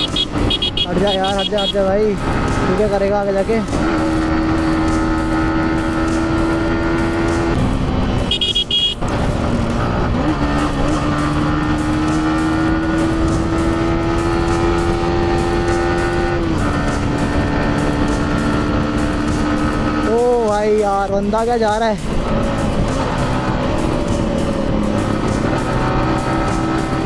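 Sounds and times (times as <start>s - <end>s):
motorcycle engine revving: 0.0s - 21.1s, 21.7s - 27.0s.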